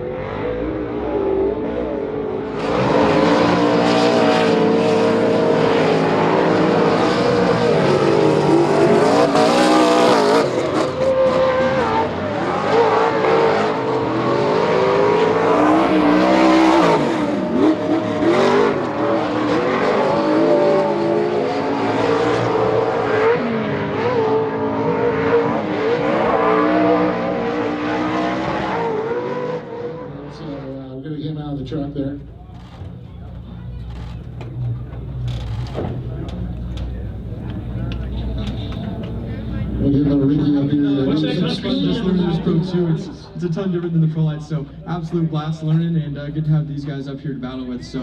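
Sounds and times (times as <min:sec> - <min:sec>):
race truck engine revving: 0:00.0 - 0:43.4.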